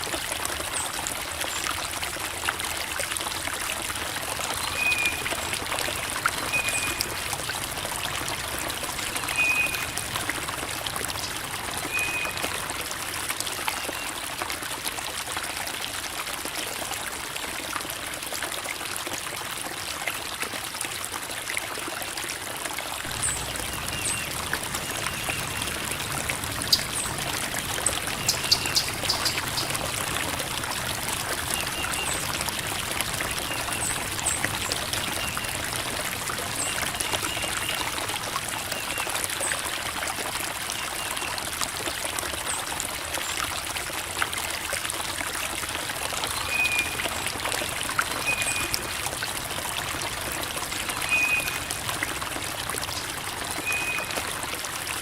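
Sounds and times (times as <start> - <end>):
creek water babbling over rocks: 0.0 - 55.0.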